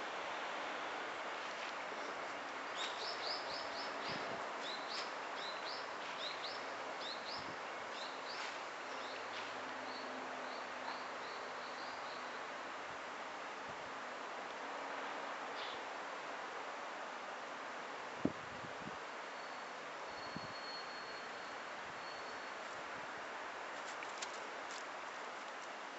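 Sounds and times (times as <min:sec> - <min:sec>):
steady outdoor hiss: 0:00.0 - 0:25.9.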